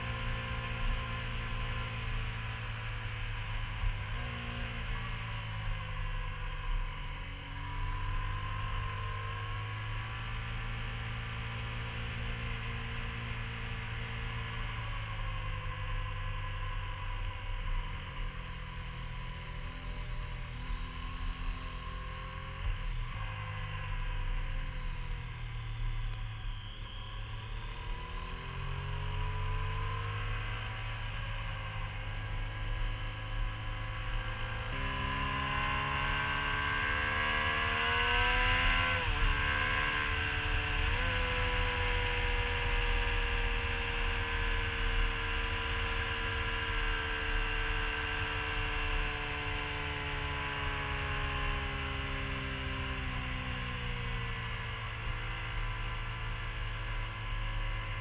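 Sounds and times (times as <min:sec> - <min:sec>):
motorcycle engine revving: 0:00.0 - 0:58.0
road noise: 0:00.0 - 0:58.0.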